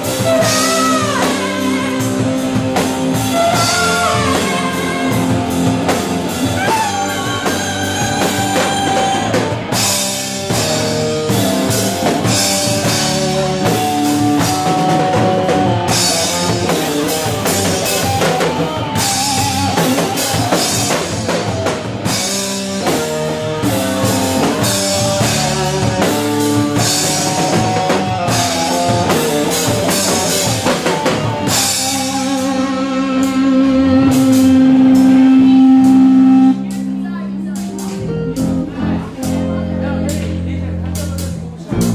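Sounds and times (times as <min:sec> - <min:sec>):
drum kit with cymbals: 0:00.0 - 0:41.9
electric bass: 0:00.0 - 0:41.9
electric guitar melody: 0:00.0 - 0:41.9.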